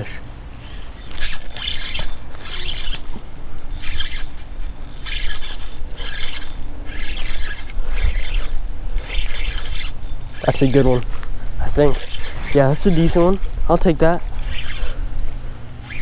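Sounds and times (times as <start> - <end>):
fishing reel gears whirring: 0.6 - 11.0, 11.6 - 15.0, 15.7 - 16.0.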